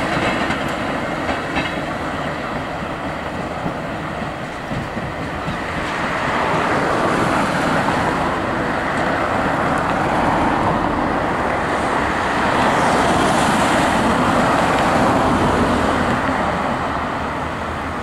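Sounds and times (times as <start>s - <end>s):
road traffic: 0.0s - 18.0s
tram wheels on rail: 0.0s - 18.0s.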